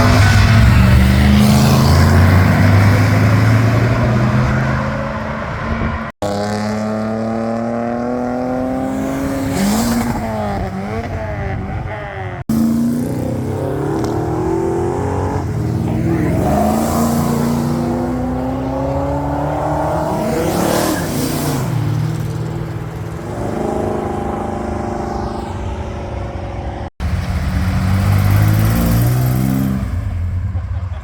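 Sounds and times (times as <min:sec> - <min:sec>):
car passing rush: 0:00.0 - 0:30.9
car engines accelerating: 0:00.0 - 0:31.0.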